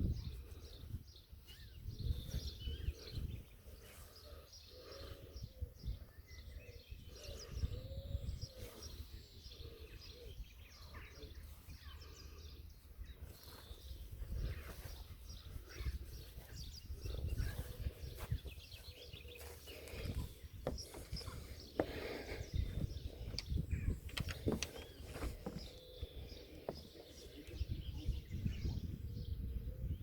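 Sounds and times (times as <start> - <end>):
small birds chirping: 0.0 - 30.0
rising and falling bird calls: 0.3 - 28.6.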